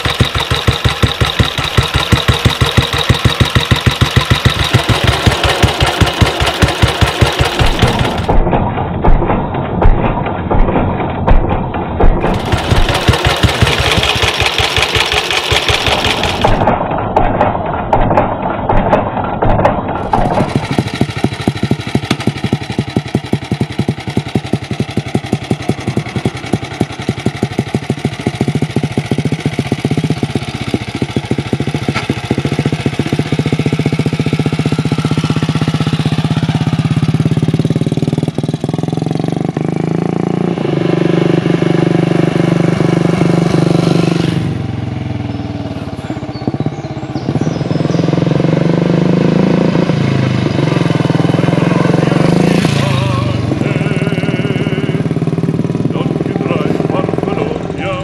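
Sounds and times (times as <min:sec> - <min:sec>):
single-cylinder engine running: 0:00.0 - 0:58.0.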